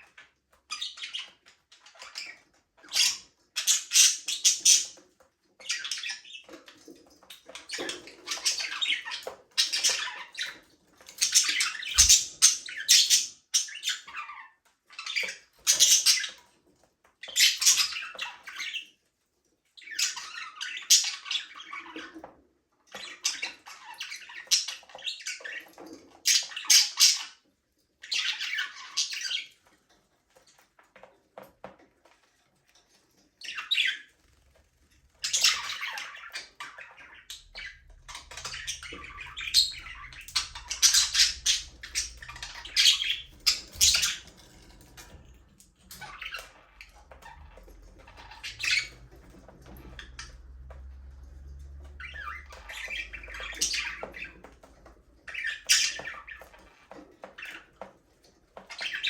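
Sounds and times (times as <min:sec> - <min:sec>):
budgerigars chirping and chattering: 0:00.0 - 0:16.6, 0:17.2 - 0:19.0, 0:19.8 - 0:59.0.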